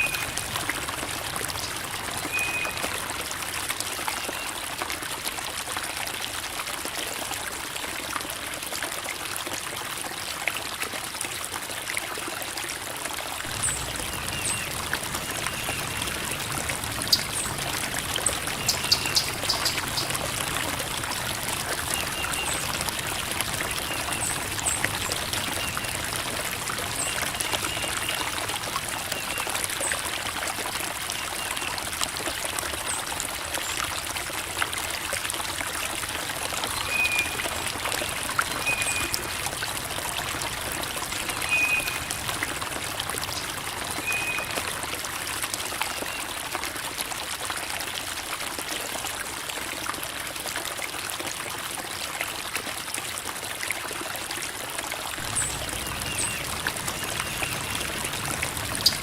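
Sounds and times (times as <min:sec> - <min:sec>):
creek water trickling over rocks: 0:00.0 - 0:59.0.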